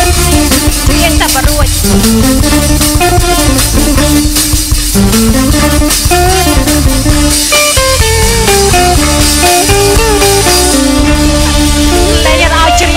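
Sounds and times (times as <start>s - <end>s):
guitar melody: 0.0s - 12.9s
loud bass line and beat: 0.0s - 12.9s.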